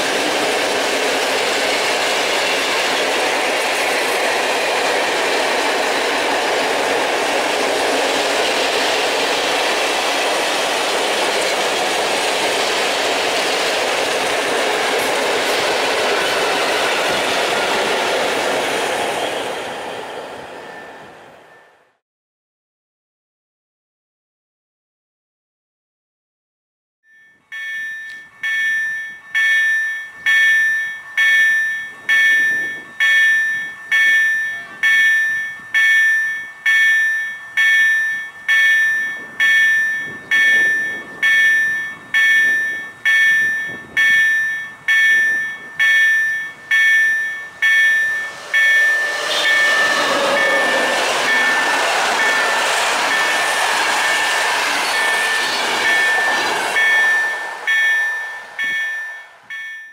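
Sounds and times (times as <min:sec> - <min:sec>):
level crossing warning bell: 0:00.0 - 0:22.0, 0:27.1 - 0:59.9
passing electric train rushing: 0:00.0 - 0:22.0, 0:27.4 - 0:59.9.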